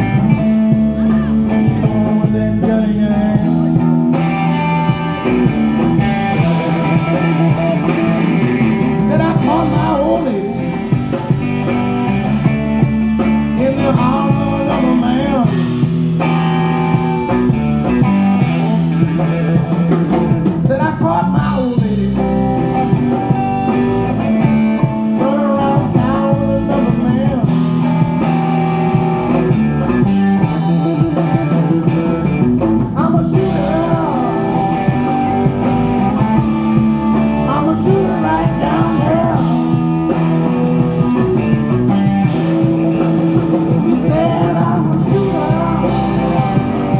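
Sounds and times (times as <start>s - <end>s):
blues rock band over loudspeakers: 0.0s - 46.9s
guitar lead bending notes: 0.0s - 46.9s.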